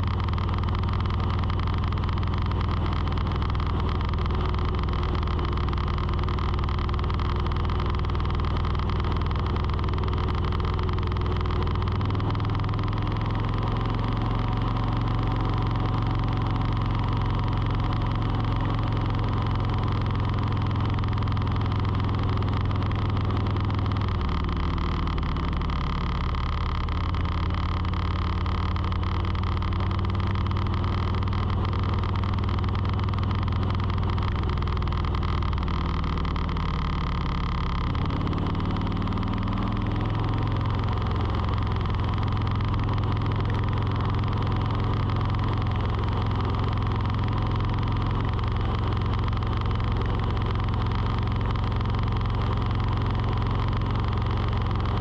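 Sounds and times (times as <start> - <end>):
motor running: 0.0 - 55.0.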